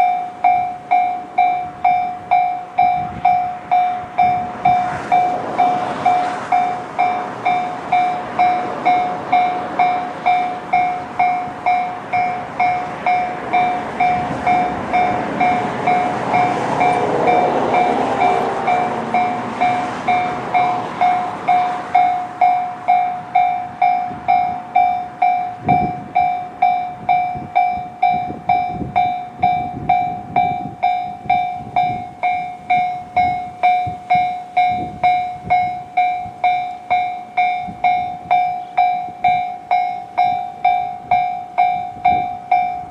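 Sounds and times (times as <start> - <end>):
electric train passing: 0.0 - 42.9
level crossing alarm bell: 0.0 - 42.9.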